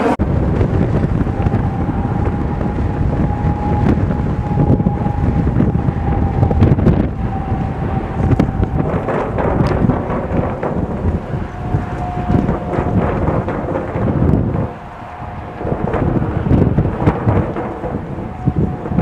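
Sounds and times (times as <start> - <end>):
steady high-pitched hum: 0.0 - 19.0
strong wind buffeting microphone: 0.0 - 19.0.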